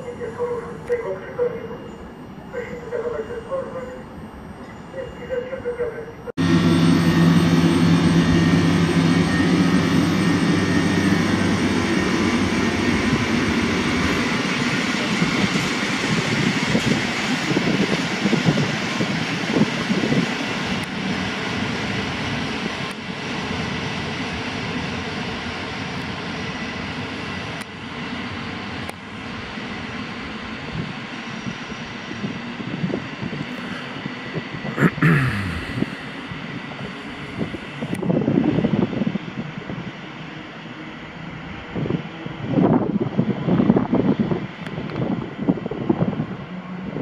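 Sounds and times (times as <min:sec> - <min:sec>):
train wheels rumbling on rails: 0:06.4 - 0:47.0.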